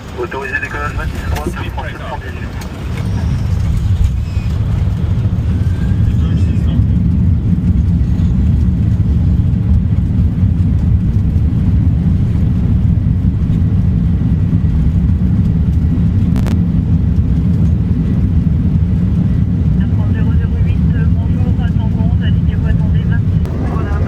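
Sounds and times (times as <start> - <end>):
airplane low rumble: 0.0 - 24.0.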